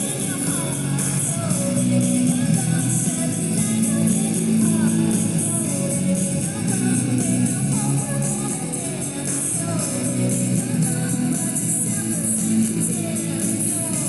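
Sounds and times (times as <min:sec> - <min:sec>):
tambourine-like jingle: 0:00.0 - 0:14.0.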